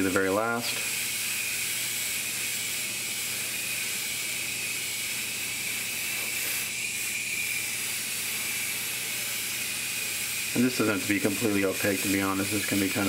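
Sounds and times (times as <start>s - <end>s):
airbrush spraying hiss: 0.0s - 13.0s.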